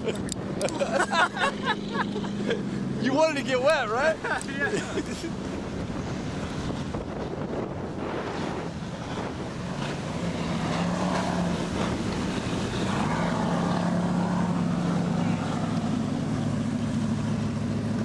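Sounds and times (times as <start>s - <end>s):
motorboat engine running: 0.0s - 18.0s
water splashing: 0.0s - 18.0s
wind: 0.0s - 18.0s.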